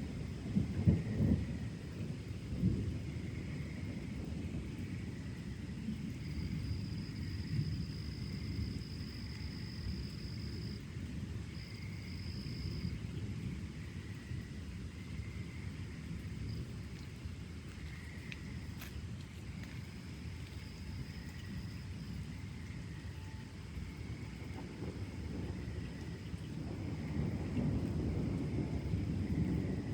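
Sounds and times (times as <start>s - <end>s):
distant thunder rumbling: 0.0s - 29.9s.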